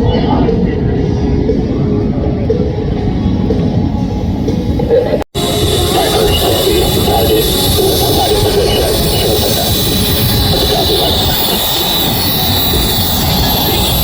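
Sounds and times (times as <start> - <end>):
jet aircraft engine noise: 0.0 - 14.0.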